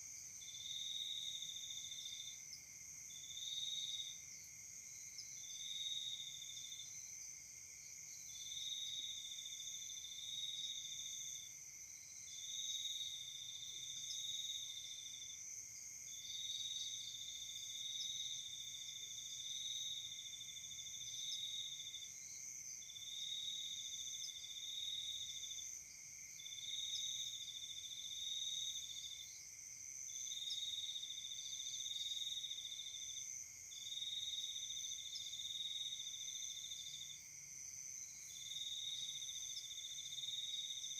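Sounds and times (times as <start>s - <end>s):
insect trill: 0.0s - 40.9s.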